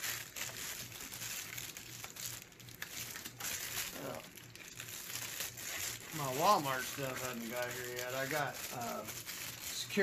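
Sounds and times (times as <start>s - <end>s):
plastic mailer bag crinkling: 0.0s - 10.0s.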